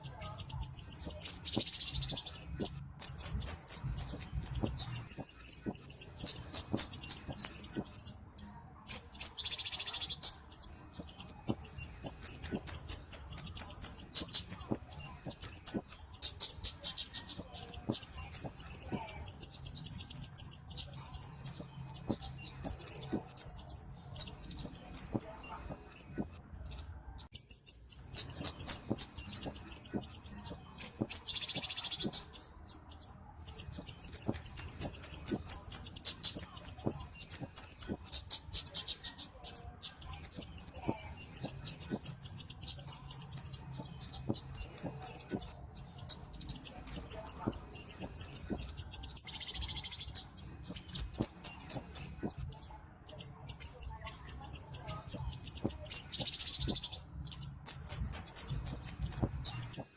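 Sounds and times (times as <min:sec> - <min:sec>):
bird ticking chirps: 0:00.0 - 0:59.9.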